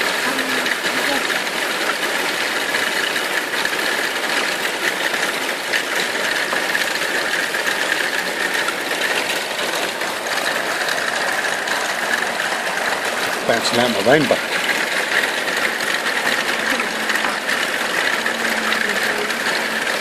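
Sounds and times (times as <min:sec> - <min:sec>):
hail and heavy rain pelting: 0:00.0 - 0:20.0.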